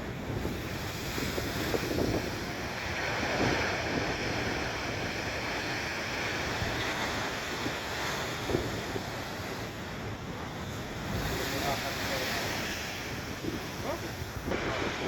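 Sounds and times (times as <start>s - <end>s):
surf breaking and washing: 0.0s - 15.0s
wind buffeting microphone: 0.0s - 15.0s.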